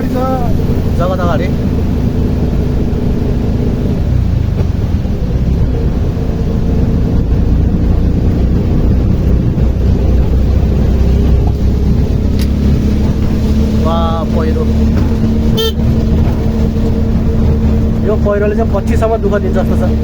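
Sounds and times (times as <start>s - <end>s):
auto-rickshaw engine running: 0.0s - 20.0s
road noise: 0.0s - 20.0s.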